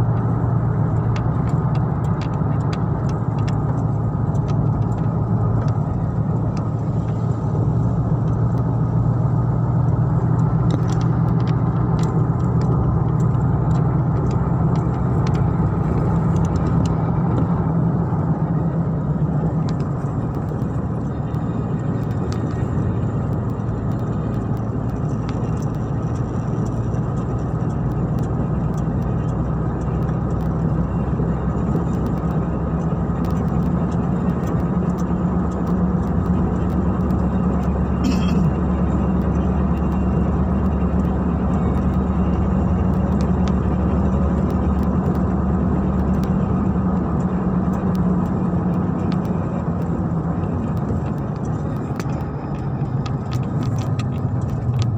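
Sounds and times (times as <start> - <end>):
car engine and tyres droning: 0.0 - 54.9.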